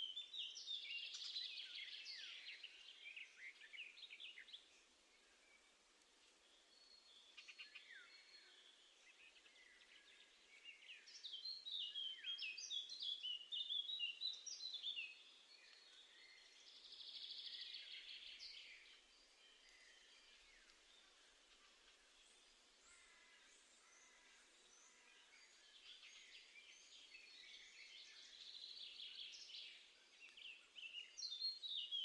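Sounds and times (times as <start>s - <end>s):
faint steady hiss: 0.0s - 32.0s
songbird singing: 0.0s - 32.0s.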